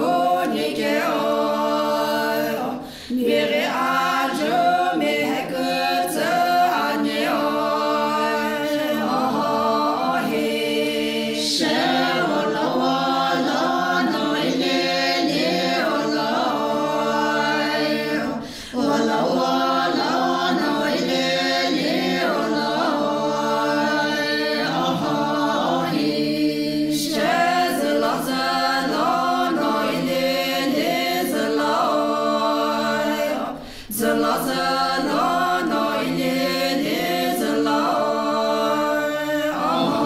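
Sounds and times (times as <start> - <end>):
women singing unaccompanied: 0.0 - 40.0.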